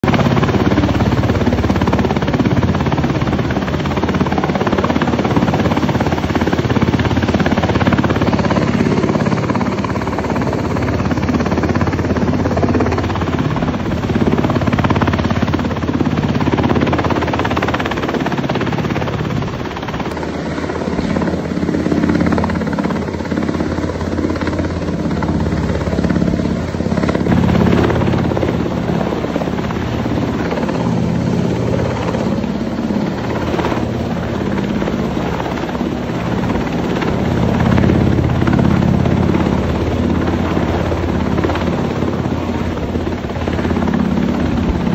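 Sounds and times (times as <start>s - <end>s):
helicopter flying overhead: 0.0s - 44.9s.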